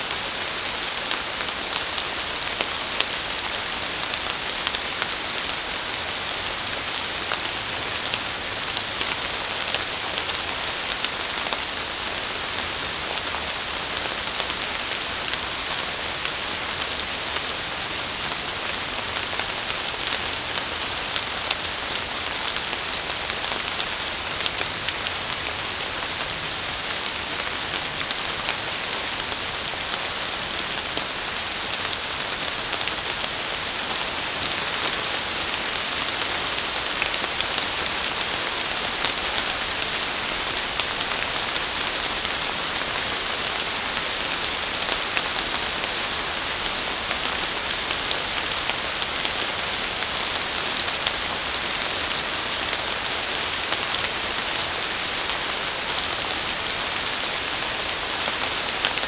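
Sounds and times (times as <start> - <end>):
rain hissing on foliage: 0.0 - 59.0.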